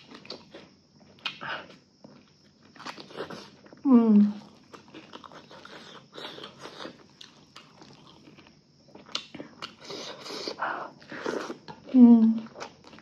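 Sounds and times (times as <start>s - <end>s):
person chewing food: 0.0s - 3.8s, 4.4s - 13.0s.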